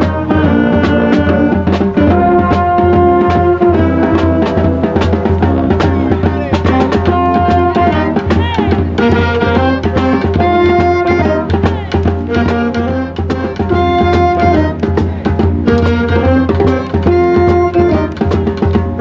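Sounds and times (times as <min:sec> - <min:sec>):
drums beating: 0:00.0 - 0:19.0
wind instruments holding notes: 0:00.0 - 0:19.0.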